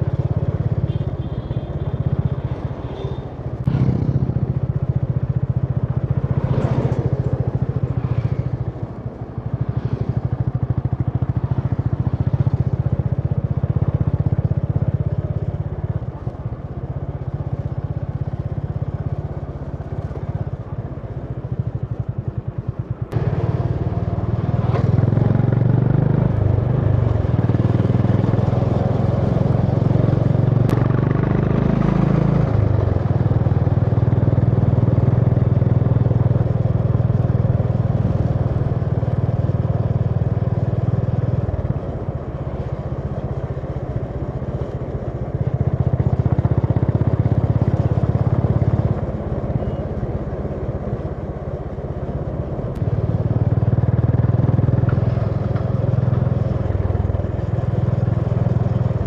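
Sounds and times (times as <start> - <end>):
motorcycle engine revving: 0.0 - 15.7, 21.4 - 59.0.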